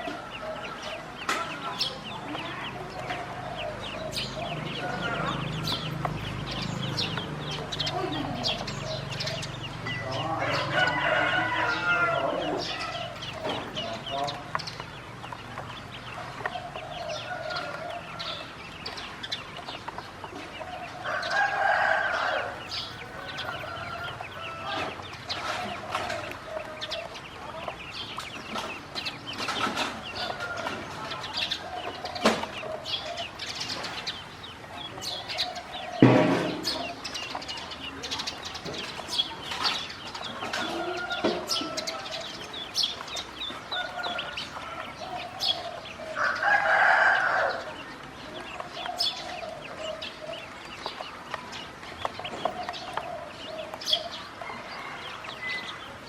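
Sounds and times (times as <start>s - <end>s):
ducklings chirping: 0.0s - 56.0s.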